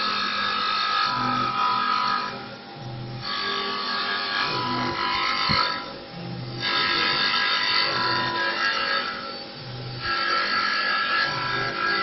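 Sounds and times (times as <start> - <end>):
lathe cutting rasp with whine: 0.0 - 12.0.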